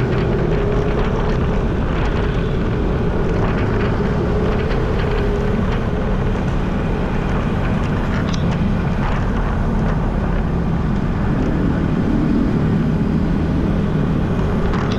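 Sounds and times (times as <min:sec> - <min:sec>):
road traffic hum: 0:00.0 - 0:14.9
wind rushing over microphone: 0:00.0 - 0:14.9.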